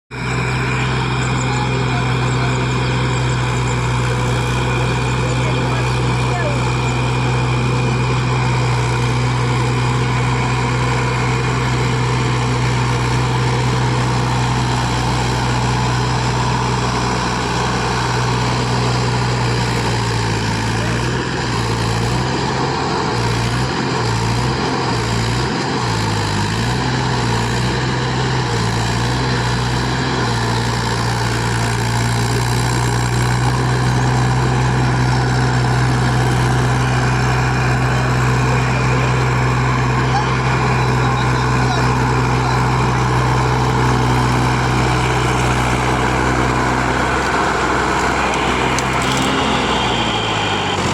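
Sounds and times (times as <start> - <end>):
tractor diesel engine running: 0.1 - 50.9.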